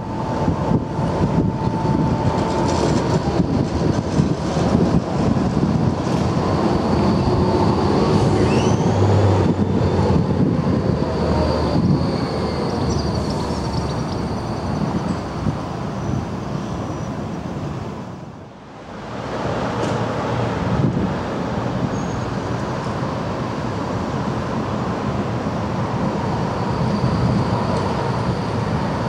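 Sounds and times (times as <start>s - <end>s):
tram wheels squealing: 0.0s - 17.8s, 21.8s - 23.1s, 24.6s - 29.0s
tram rumbling on rails: 0.0s - 29.0s.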